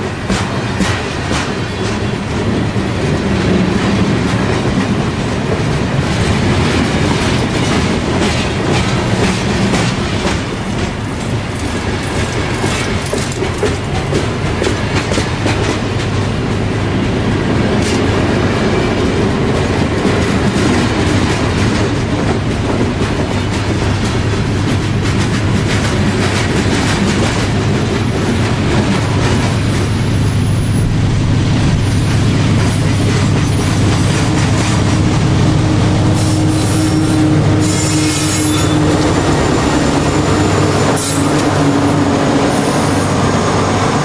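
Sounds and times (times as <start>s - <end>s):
train wheels clicking over rail joints: 0.0s - 16.8s, 17.4s - 43.9s
train rumble: 0.0s - 44.0s.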